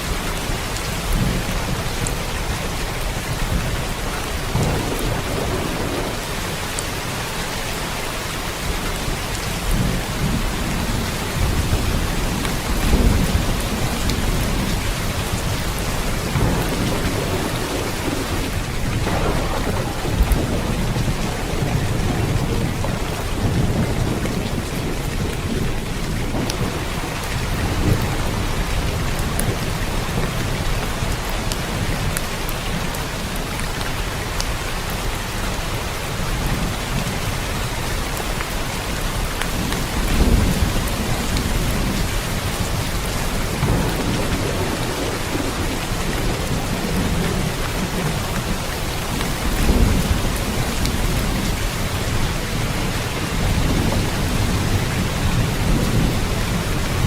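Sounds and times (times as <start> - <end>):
thunder rumbling: 0.0 - 33.5, 36.1 - 57.0
steady rain: 0.0 - 57.0.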